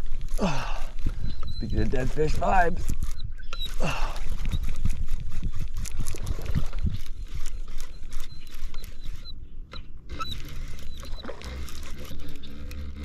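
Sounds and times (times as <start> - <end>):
fishing reel ticking and whining: 0.0 - 13.0.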